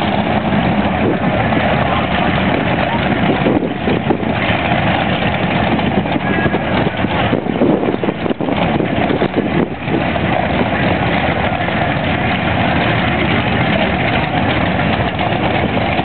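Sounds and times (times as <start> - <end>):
drag car engines idling: 0.0 - 16.0
voices: 0.0 - 16.0.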